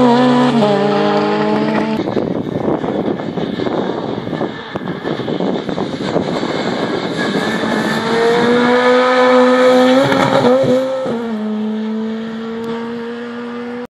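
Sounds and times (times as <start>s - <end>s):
rally car engine at high revs: 0.0s - 13.9s.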